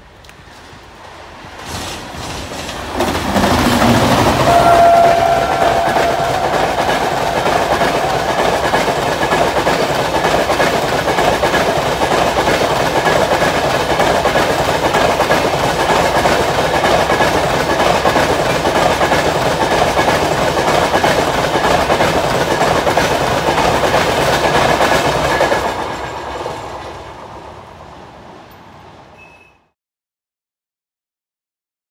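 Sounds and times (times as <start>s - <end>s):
train wheels rushing on rails: 0.0s - 29.2s.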